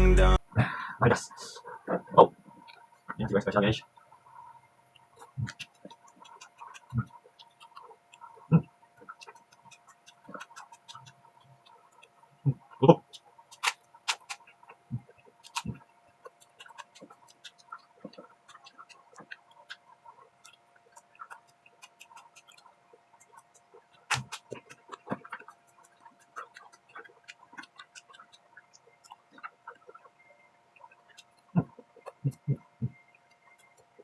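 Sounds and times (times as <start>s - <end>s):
faint steady hum: 0.0s - 34.0s
chewing: 1.4s - 34.0s.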